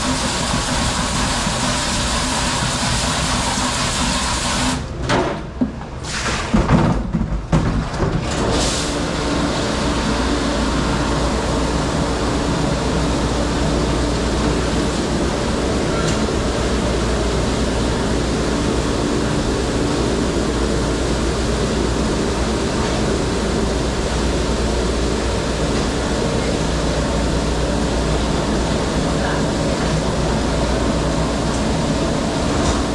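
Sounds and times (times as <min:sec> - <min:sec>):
dish machinery roaring: 0:00.0 - 0:05.0, 0:07.5 - 0:32.9.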